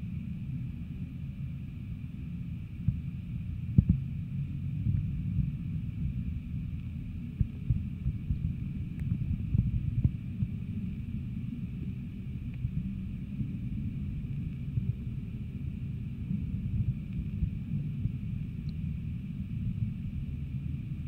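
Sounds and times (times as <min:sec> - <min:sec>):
faint steady hiss: 0:00.0 - 0:21.0
muffled low rumble: 0:00.0 - 0:21.0.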